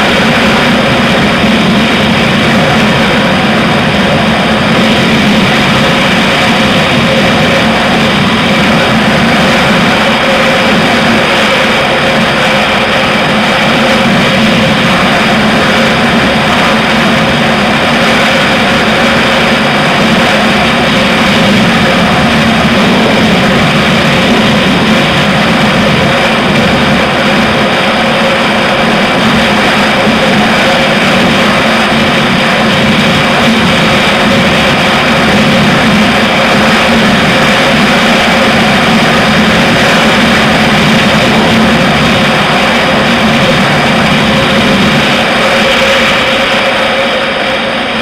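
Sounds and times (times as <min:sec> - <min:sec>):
motorcycle engine at full throttle: 0:00.0 - 0:48.0
wind rushing over microphone: 0:00.0 - 0:48.0.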